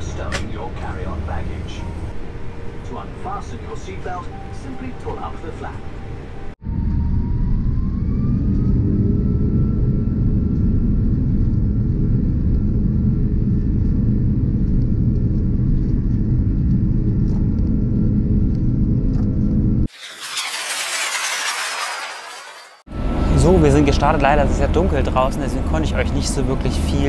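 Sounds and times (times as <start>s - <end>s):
jet engines at takeoff in cabin: 0.0s - 27.0s.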